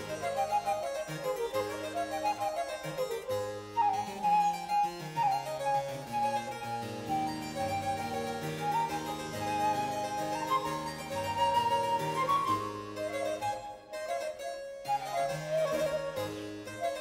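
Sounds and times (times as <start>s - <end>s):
flute holding high notes: 0.0s - 17.0s
harpsichord playing: 0.0s - 17.0s.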